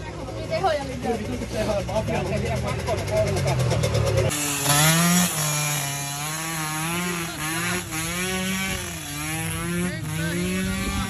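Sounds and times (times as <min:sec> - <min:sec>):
minibike engine buzzing: 0:00.0 - 0:11.0.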